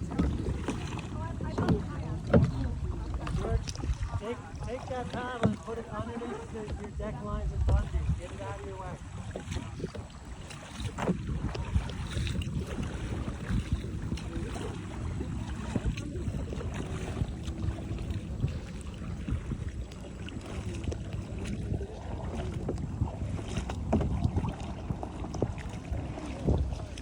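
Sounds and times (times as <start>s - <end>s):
paddle splashing in water: 0.0s - 27.0s
wind rumbling on microphone: 0.0s - 27.0s.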